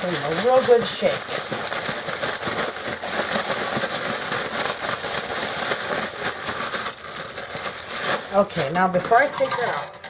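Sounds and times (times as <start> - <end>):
crumb coating pattering: 0.0 - 10.0
plastic bag crinkling: 0.0 - 10.0.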